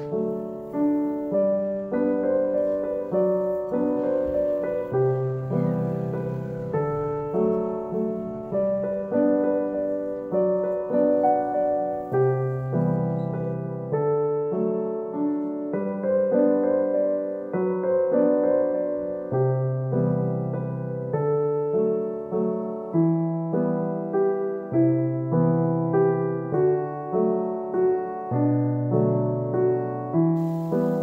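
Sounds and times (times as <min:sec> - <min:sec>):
gentle piano melody: 0:00.0 - 0:31.0
low piano bass notes: 0:00.0 - 0:31.0.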